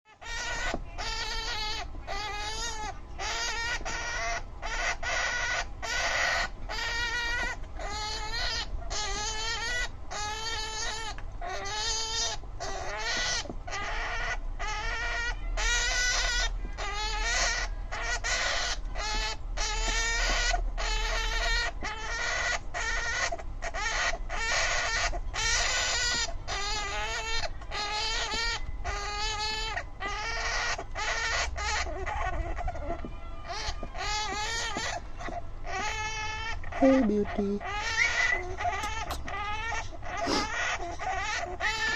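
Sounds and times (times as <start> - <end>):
hamster screaming: 0.1 - 41.9.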